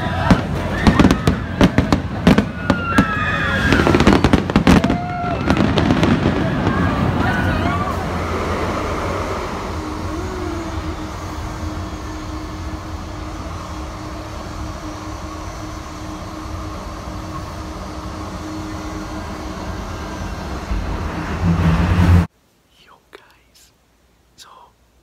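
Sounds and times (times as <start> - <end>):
light-rail car rumble: 0.0 - 22.3
constant low hum: 0.0 - 25.0.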